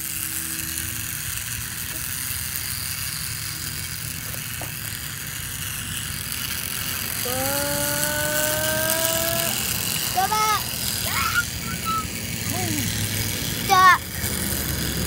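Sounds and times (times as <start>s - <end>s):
toy train motor whirring: 0.0s - 15.0s.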